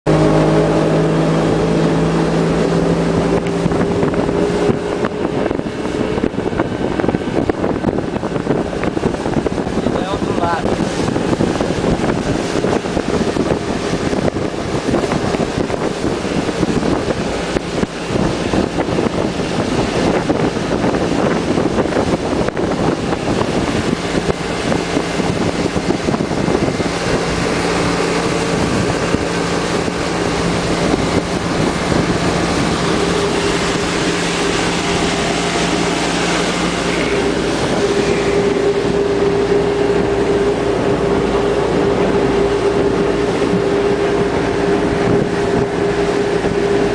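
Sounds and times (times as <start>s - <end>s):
motorboat engine running: 0.0s - 46.9s
wind buffeting microphone: 0.0s - 46.9s.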